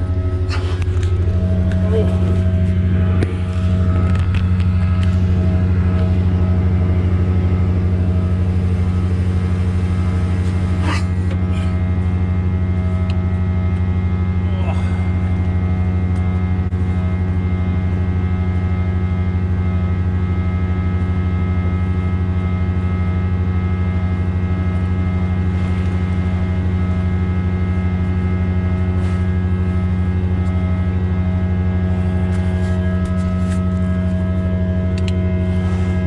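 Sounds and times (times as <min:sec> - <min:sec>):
truck diesel engine running: 0:00.0 - 0:36.0.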